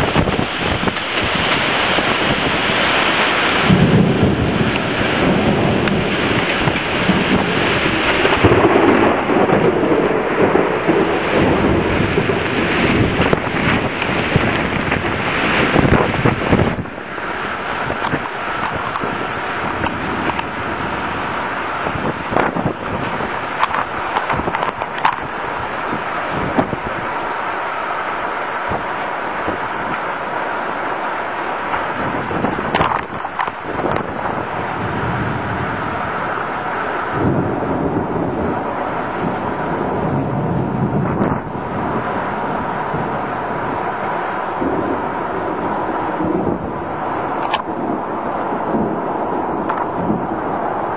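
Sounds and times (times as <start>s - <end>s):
low rumble of thunder: 0.0s - 50.9s
rain hiss: 0.0s - 50.9s
storm wind buffeting microphone: 0.0s - 50.9s.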